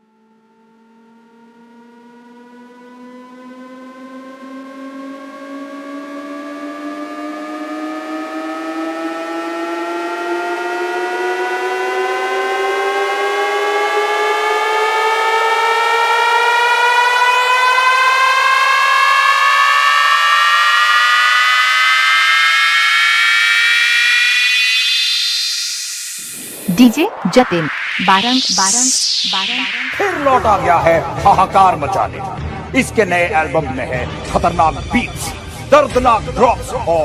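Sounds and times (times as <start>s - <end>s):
rising synth tones: 0.0s - 34.3s.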